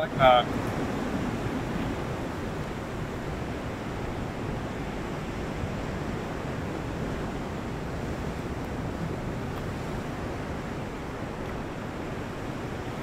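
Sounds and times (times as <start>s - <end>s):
ocean surf breaking on rocks: 0.0s - 13.0s
wind on microphone: 0.0s - 13.0s.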